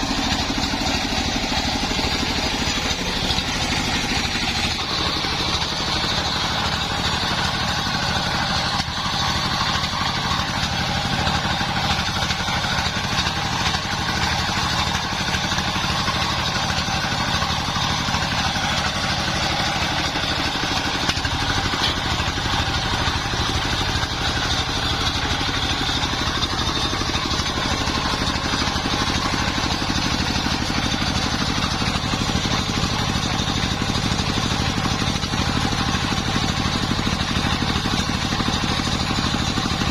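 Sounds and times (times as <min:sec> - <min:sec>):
circular saw running: 0:00.0 - 0:39.9.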